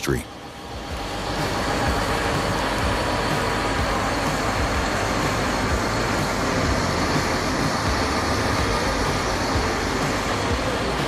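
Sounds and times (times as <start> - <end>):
road traffic rumble and hiss: 0.0 - 11.0.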